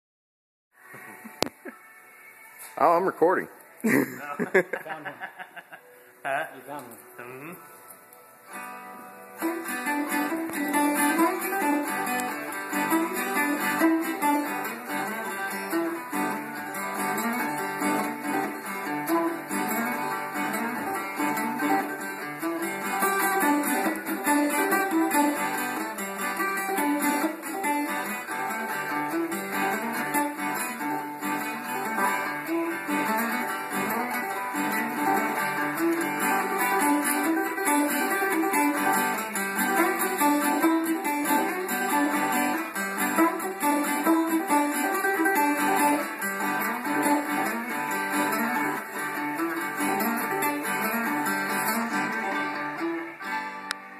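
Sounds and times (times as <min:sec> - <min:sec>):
guitar picked notes: 0:05.8 - 0:53.9.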